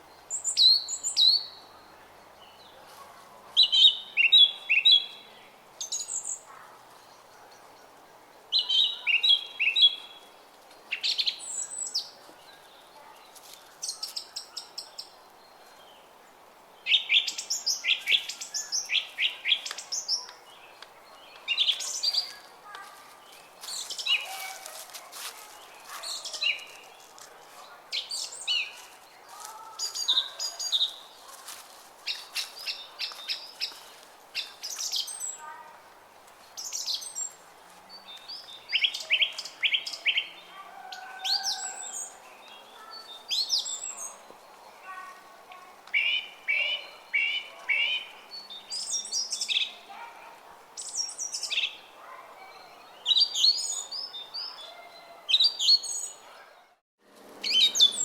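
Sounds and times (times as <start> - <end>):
songbirds chirping and singing: 3.6 - 35.6, 36.6 - 56.8, 57.4 - 58.0.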